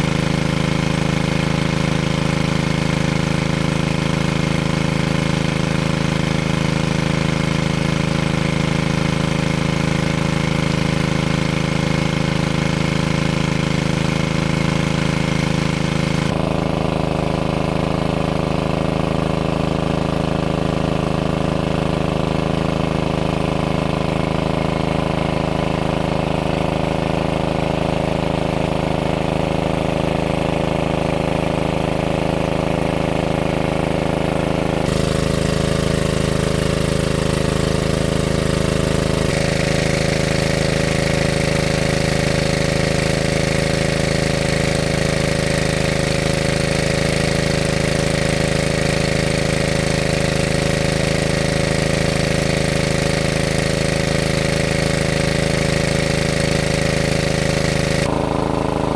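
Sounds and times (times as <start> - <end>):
small engine running: 0.0 - 58.9.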